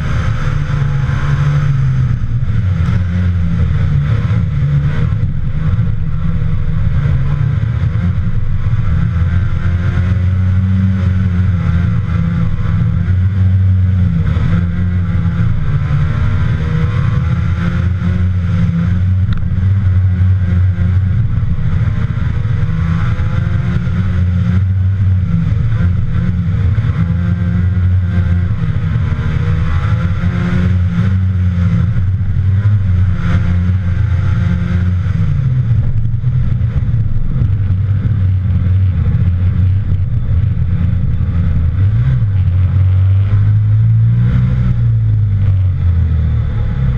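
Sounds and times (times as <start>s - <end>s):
rally car engine revving hard: 0.0s - 46.9s.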